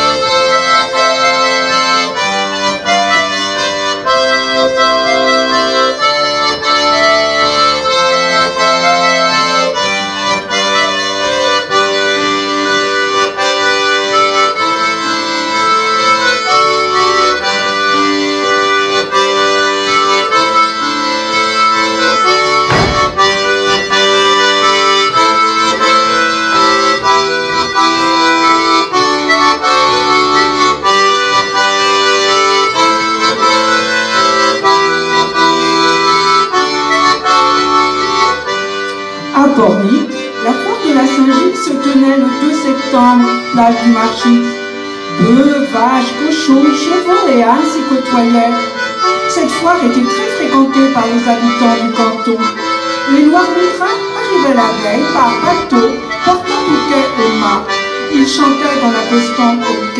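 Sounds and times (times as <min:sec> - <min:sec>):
accordion dance tune: 0:00.0 - 0:59.9.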